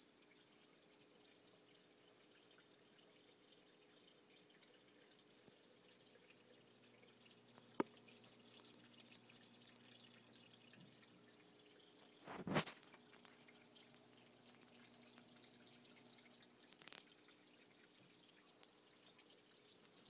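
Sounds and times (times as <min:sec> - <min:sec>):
water dripping and trickling: 0:00.0 - 0:20.0.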